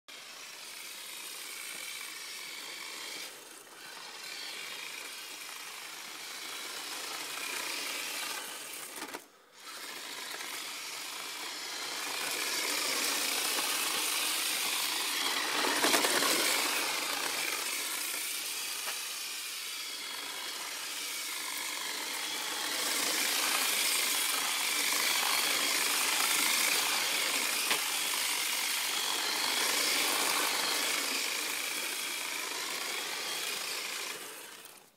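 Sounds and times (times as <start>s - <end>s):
small electric motor whining: 0.1s - 34.9s.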